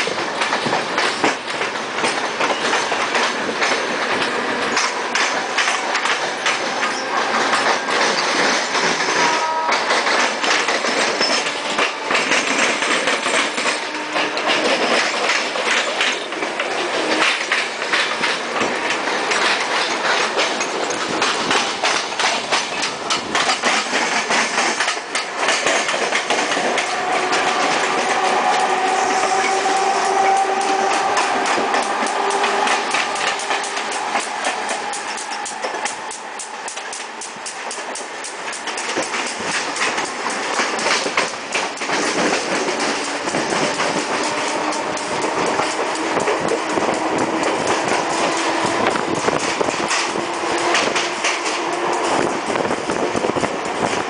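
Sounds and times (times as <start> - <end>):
train wheels clattering over rails: 0.0 - 54.0.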